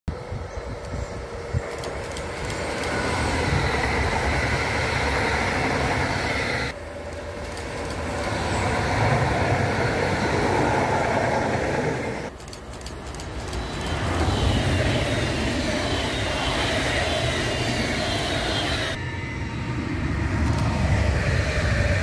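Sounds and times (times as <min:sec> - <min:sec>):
electric train passing: 0:00.1 - 0:22.0.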